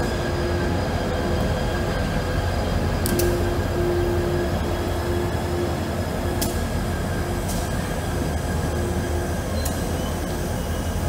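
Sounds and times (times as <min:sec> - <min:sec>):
freight train rumbling: 0:00.0 - 0:11.0
train wheels whining: 0:00.0 - 0:11.0.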